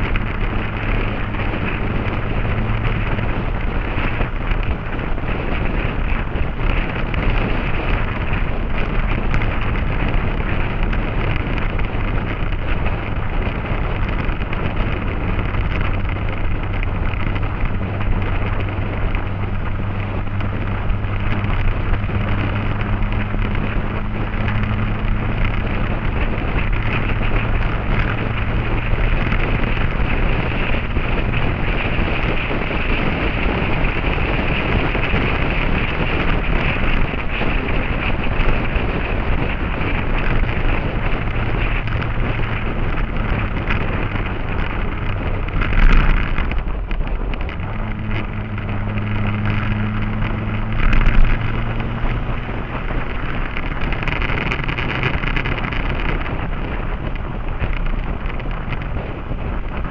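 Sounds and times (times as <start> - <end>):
motorcycle engine: 0.0 - 59.9
wind rush on microphone: 0.0 - 59.9.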